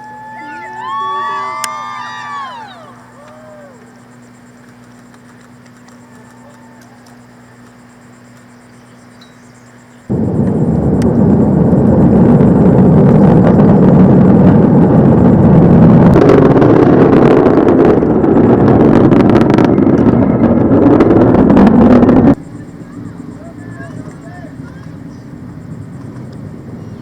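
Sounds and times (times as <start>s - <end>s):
faint steady hum: 0.0s - 27.0s
rocket engines rumbling: 0.0s - 27.0s.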